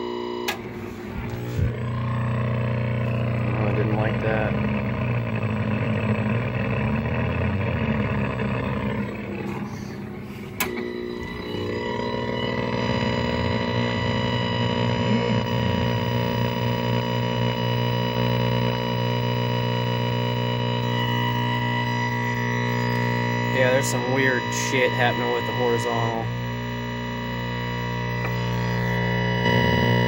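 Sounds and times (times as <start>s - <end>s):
buzzing hum with overtones: 0.0s - 30.0s
television static: 1.1s - 30.0s.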